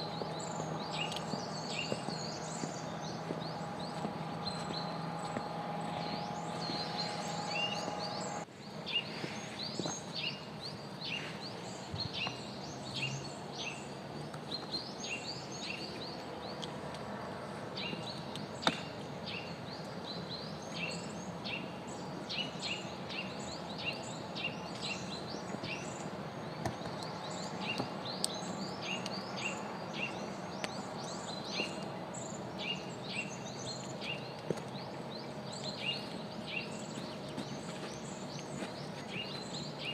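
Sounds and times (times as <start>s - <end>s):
outdoor ambience hiss: 0.0s - 39.9s
songbirds chirping: 0.0s - 39.9s.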